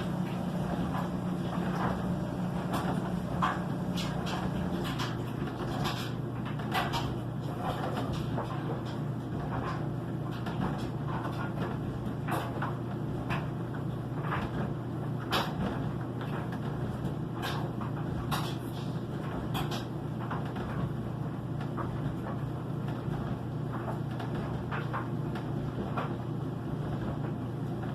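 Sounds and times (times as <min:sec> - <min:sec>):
washing machine motor hum: 0:00.0 - 0:27.9.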